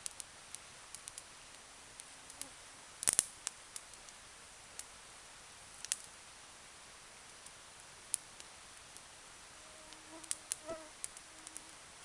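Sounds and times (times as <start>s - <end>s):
campfire crackling and popping: 0.0s - 5.0s, 5.7s - 6.2s, 7.2s - 9.3s, 9.9s - 12.0s.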